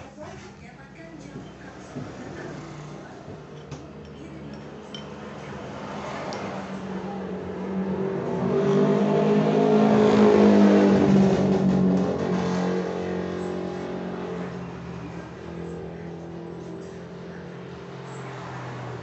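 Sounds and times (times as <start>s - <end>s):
vehicle passing by: 1.6s - 19.0s.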